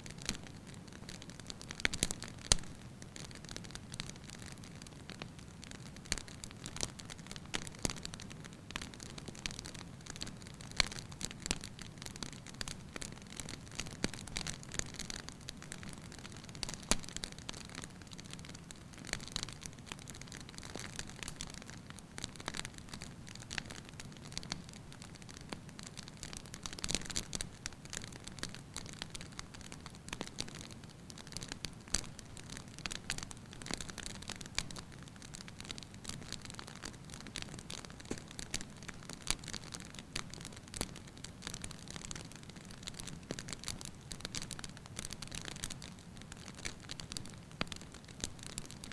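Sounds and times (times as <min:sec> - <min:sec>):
soft steady hiss: 0:00.0 - 0:48.9
wood fire crackling and popping: 0:00.1 - 0:48.9.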